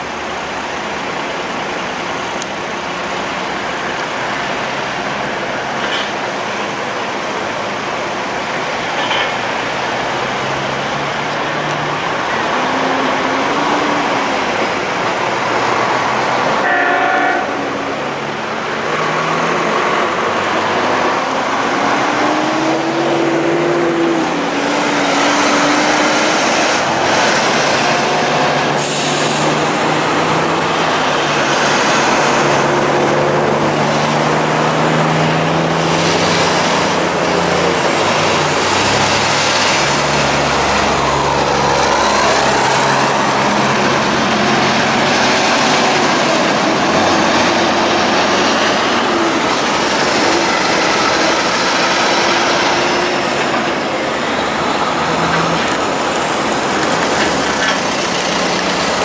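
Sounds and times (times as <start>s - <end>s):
diesel truck engines under load: 0.0s - 59.0s
tyre and road noise: 0.0s - 59.0s.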